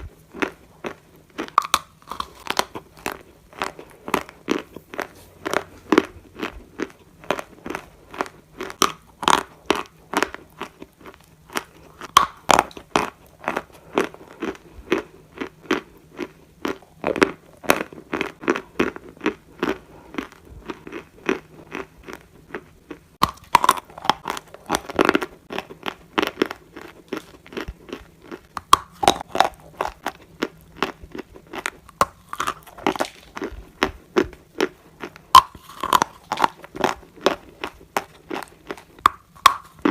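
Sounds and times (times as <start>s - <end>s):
crunchy chewing of clay: 0.0s - 39.9s.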